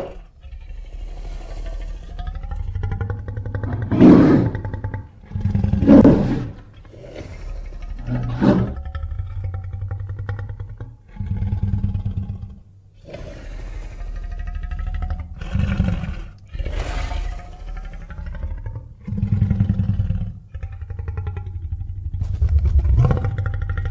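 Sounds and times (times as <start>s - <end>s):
low pulsing growls: 0.0s - 23.9s.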